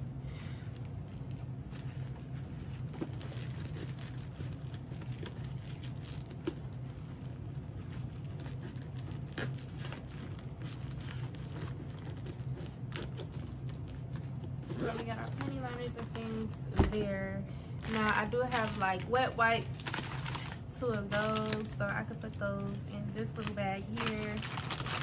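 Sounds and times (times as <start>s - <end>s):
wrappers rustling: 0.0s - 17.2s, 17.8s - 25.0s
steady low hum: 0.0s - 25.0s.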